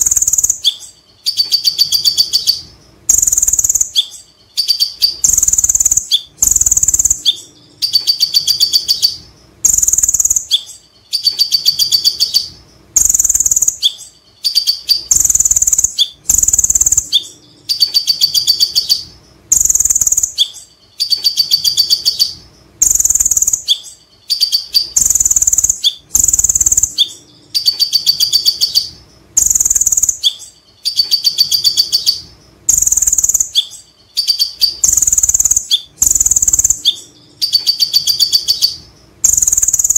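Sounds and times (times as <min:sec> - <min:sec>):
sunbird singing chattering song: 0:00.0 - 0:39.9.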